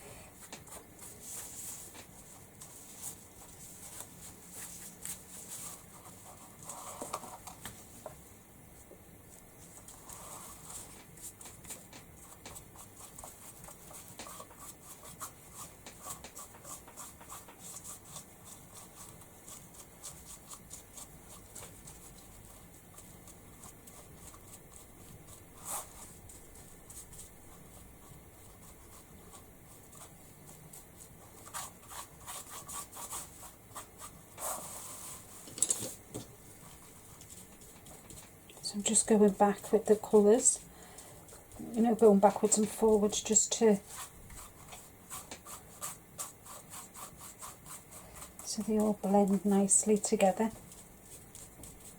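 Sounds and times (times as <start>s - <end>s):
paint rubbing and scraping on board: 9.6s - 36.0s, 36.6s - 51.9s.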